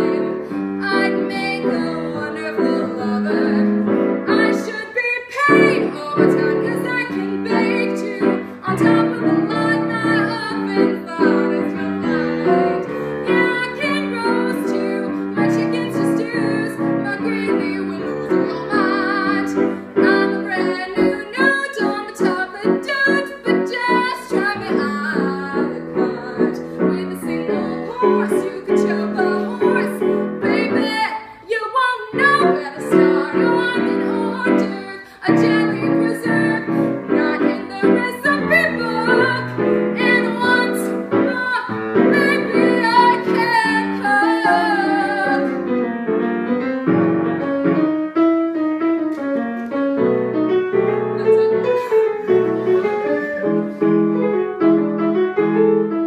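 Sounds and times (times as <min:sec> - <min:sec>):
woman singing: 0:00.0 - 0:45.8, 0:51.1 - 0:53.5
grand piano accompaniment: 0:00.0 - 0:56.0.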